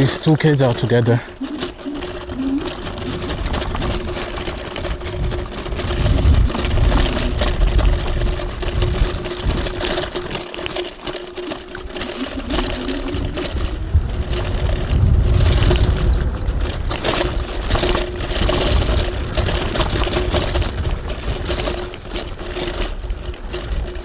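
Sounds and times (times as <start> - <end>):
low rumbling: 0.0 - 23.5
electric scooter motor whining: 0.0 - 24.0
small knocks and rattles: 0.0 - 24.0.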